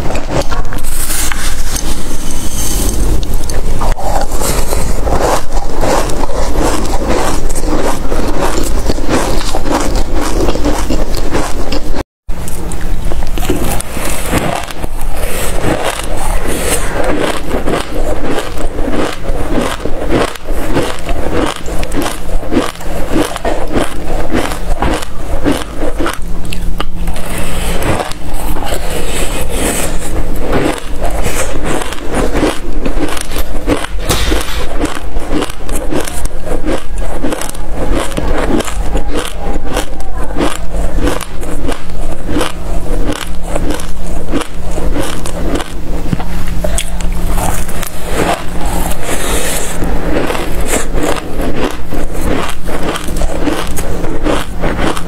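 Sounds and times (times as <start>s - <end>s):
chewing crunchy seeds: 0.0s - 55.0s
low hum: 0.0s - 55.0s.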